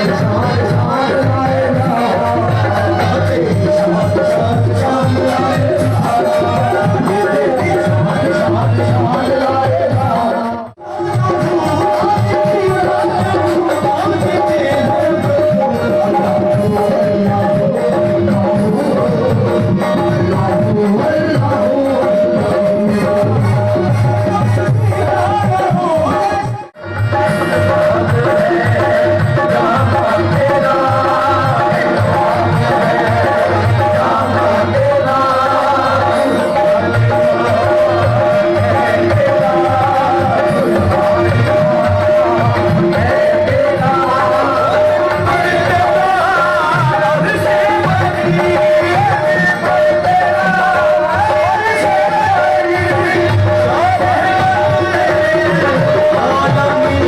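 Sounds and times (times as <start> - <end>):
live devotional music: 0.0 - 57.0
tabla drumming: 0.0 - 57.0.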